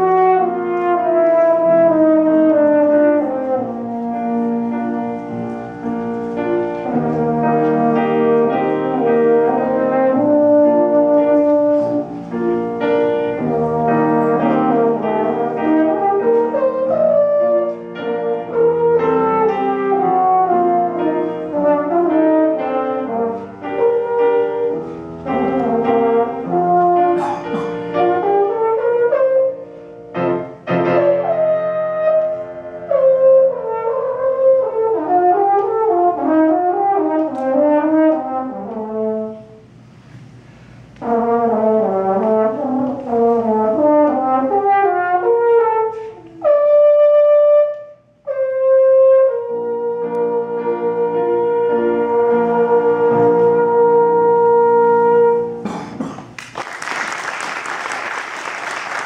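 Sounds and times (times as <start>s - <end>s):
french horn solo: 0.0s - 40.0s, 40.9s - 55.8s
piano accompaniment: 0.0s - 59.0s.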